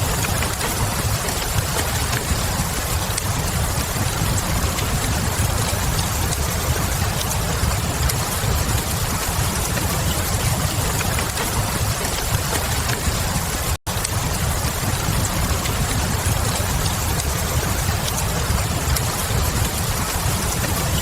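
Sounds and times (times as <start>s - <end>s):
steady rain: 0.0s - 21.0s
wood fire crackles: 0.0s - 21.0s.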